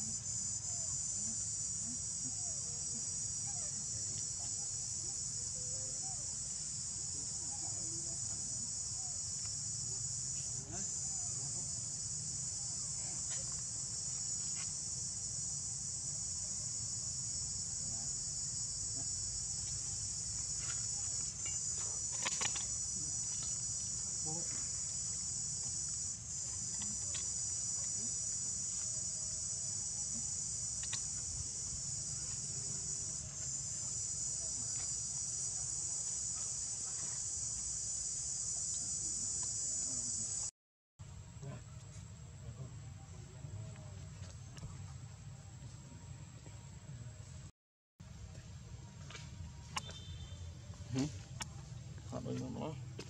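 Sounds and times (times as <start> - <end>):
insects chorus: 0.0 - 40.5, 49.1 - 53.0.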